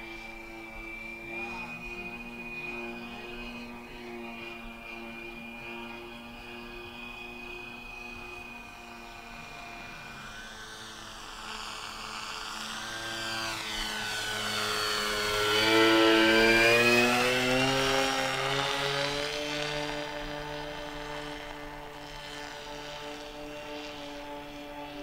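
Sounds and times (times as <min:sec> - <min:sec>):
electric motors and propellers whining: 0:00.0 - 0:25.0.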